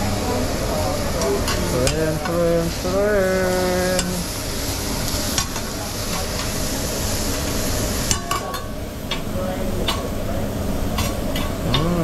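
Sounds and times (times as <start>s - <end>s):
seafood sizzling on griddle: 0.0s - 12.0s.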